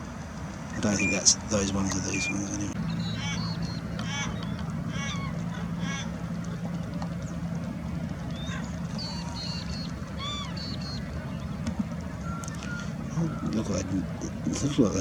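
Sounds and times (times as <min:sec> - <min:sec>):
steady low hum: 0:00.0 - 0:15.0
water birds honking: 0:00.0 - 0:15.0.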